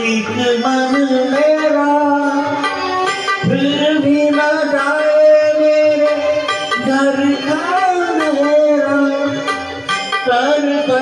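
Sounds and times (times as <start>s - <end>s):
instrumental backing track: 0.0s - 11.0s
man singing into microphone: 0.0s - 11.0s.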